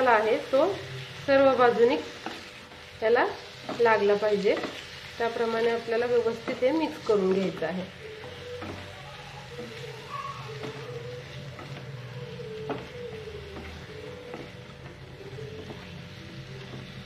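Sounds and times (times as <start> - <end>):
chicken sizzling in oil: 0.0 - 17.0
spatula stirring and scraping: 0.0 - 17.0.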